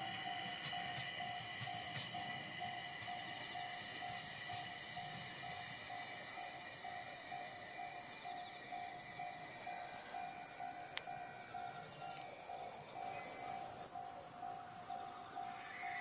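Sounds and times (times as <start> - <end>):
insects chirring: 0.0 - 16.0
level-crossing alarm ringing: 0.0 - 16.0.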